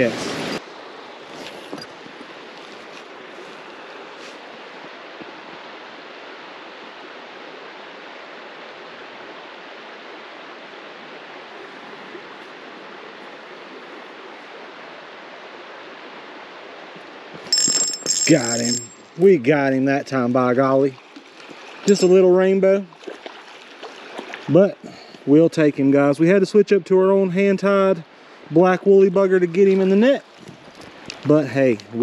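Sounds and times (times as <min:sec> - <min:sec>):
creek water rushing: 0:00.0 - 0:32.0.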